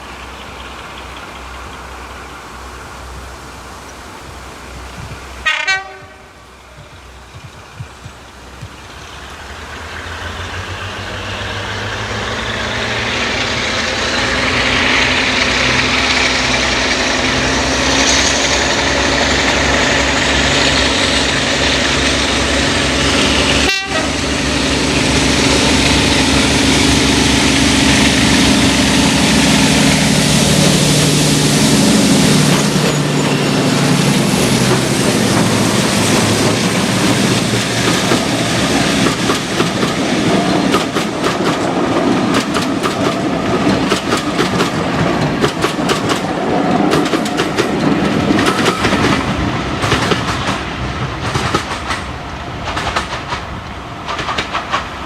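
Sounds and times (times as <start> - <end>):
diesel locomotive engine: 0.0 - 55.0.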